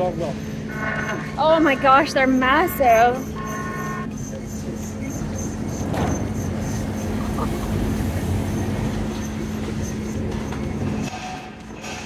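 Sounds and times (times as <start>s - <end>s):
industrial machinery drone: 0.0s - 12.0s
machinery clatter: 0.0s - 12.0s.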